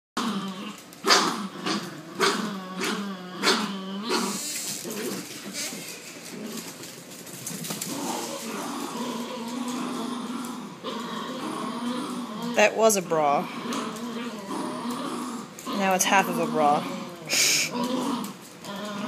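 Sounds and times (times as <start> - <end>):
puppies growling and barking: 0.2 - 19.0.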